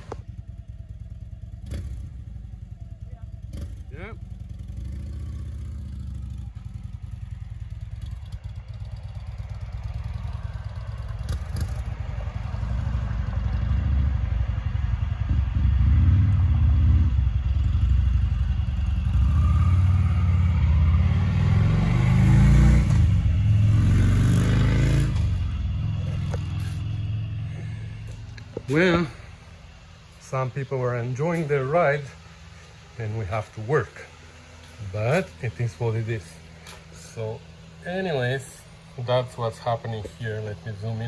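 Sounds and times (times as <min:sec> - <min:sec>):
motorcycle engine running: 0:00.0 - 0:41.0
vehicle engine revving: 0:00.0 - 0:41.0.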